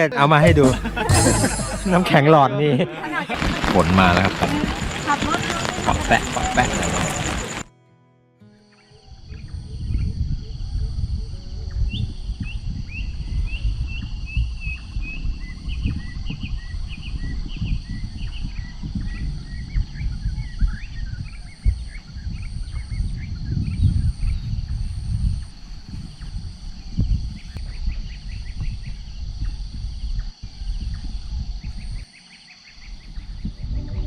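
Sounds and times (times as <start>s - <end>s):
insects droning: 0.0s - 7.7s, 8.5s - 34.0s
wind buffeting microphone: 3.2s - 7.6s, 9.2s - 32.1s, 32.7s - 34.0s.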